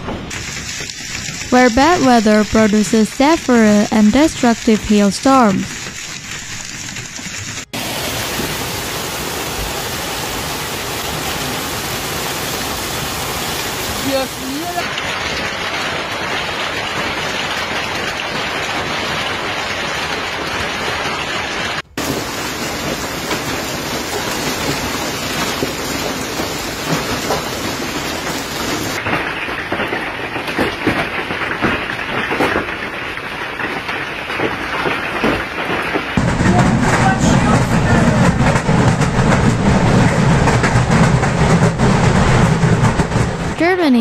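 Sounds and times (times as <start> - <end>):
hail and rain pelting ground: 0.1 - 44.0
hailstones knocking: 0.2 - 3.6, 4.3 - 44.0.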